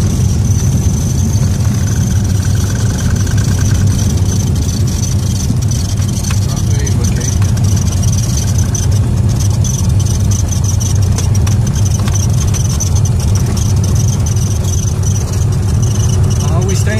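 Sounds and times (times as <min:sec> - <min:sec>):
propeller aircraft engine drone: 0:00.0 - 0:16.9
steady high whine: 0:00.0 - 0:16.9.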